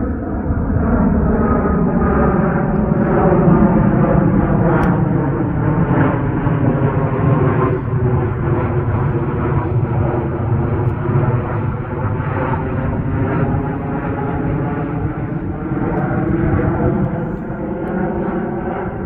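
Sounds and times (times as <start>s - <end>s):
loud engine rumble: 1.8s - 19.0s.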